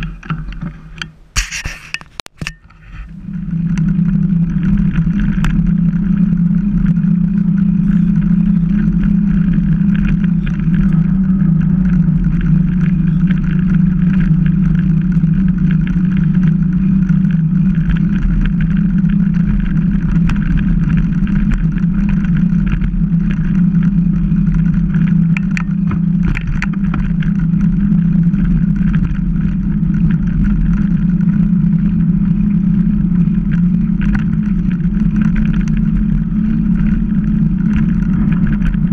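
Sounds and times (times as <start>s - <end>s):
bike tyres humming on asphalt: 0.0s - 38.9s
small clicks and rattles: 0.0s - 38.9s
wind rumbling on microphone: 0.0s - 38.9s.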